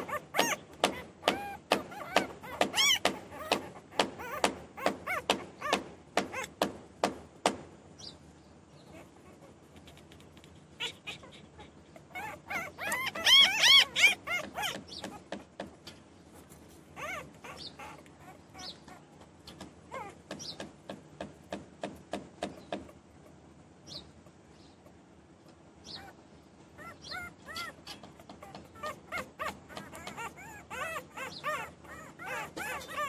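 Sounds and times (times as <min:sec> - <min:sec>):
puppies crying and whining: 0:00.0 - 0:06.9, 0:08.7 - 0:21.5, 0:22.4 - 0:33.0.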